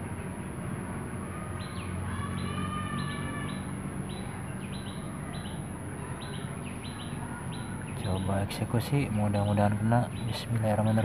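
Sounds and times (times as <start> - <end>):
bird chirping: 1.3 - 11.0.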